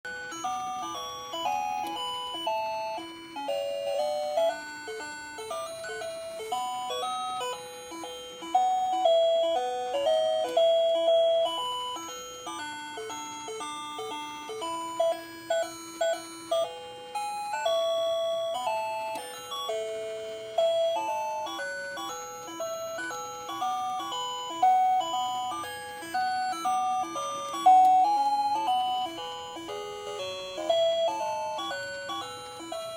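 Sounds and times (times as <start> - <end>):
alarm clock electronic melody: 0.1 - 32.9.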